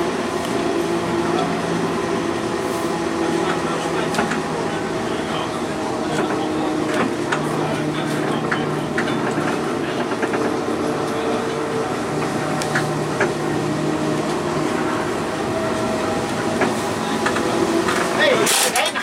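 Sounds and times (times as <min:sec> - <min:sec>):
tram motors humming: 0:00.0 - 0:19.0
wheels rumbling on track: 0:00.0 - 0:19.0.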